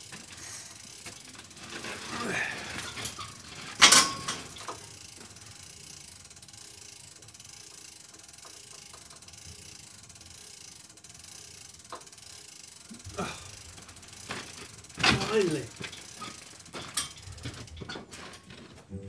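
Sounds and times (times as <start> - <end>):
hand-cranked winch ratchet clicking: 0.0 - 18.7.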